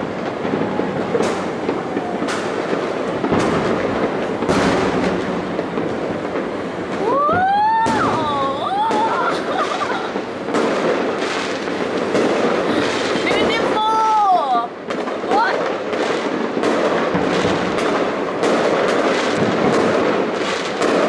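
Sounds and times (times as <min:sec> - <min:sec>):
firework shells bursting: 0:00.0 - 0:21.0
fireworks crackling: 0:00.0 - 0:21.0.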